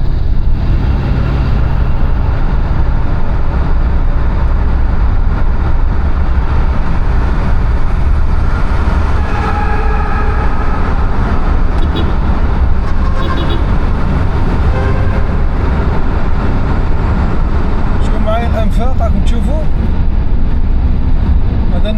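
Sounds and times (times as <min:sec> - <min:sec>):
car cabin road rumble: 0:00.0 - 0:21.9.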